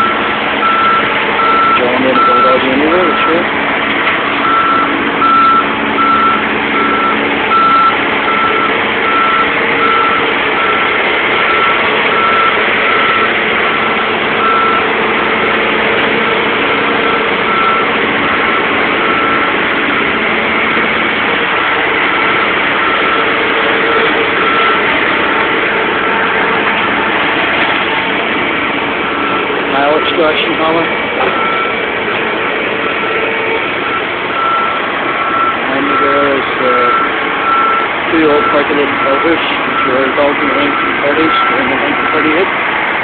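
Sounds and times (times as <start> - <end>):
reversing alarm beeping: 0.0 - 3.6, 4.4 - 27.2, 29.0 - 42.5
diesel machinery working: 0.0 - 43.0.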